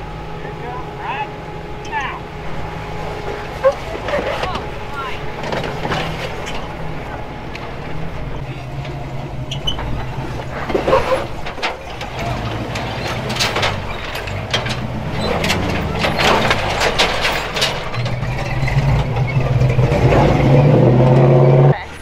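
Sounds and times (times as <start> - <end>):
truck engine running slowly: 0.0 - 22.0
truck knocking on rock: 3.2 - 21.7.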